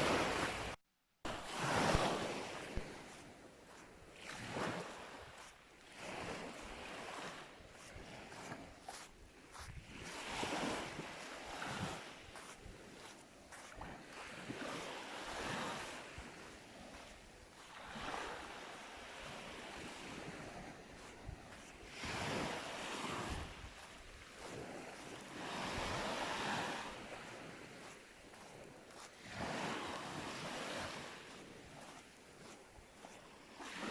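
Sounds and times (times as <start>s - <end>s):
sea waves breaking on beach: 0.0s - 33.9s.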